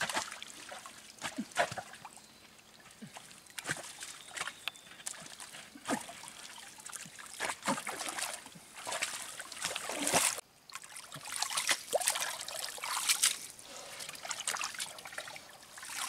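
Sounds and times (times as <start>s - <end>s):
hands splashing in muddy water: 0.0s - 2.1s, 2.9s - 16.0s.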